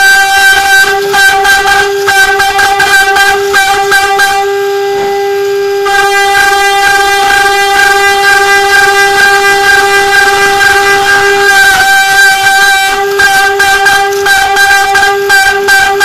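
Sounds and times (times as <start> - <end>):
spindle whine: 0.0 - 16.0.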